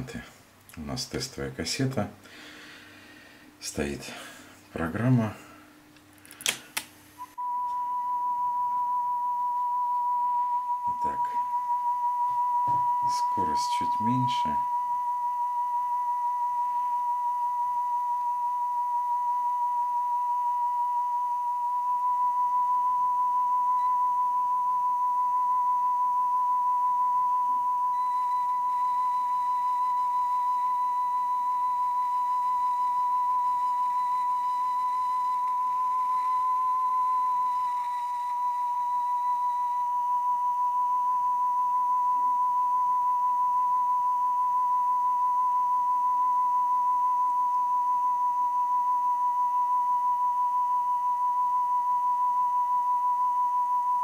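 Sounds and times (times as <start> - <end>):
steady test tone with warble: 7.3 - 50.6.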